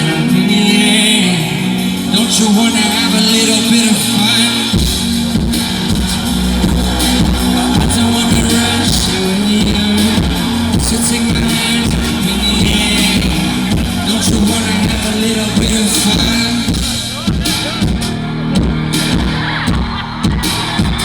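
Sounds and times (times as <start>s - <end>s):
deep pulsing bass beat: 0.0s - 21.0s
electronic pop band playing: 0.0s - 21.0s.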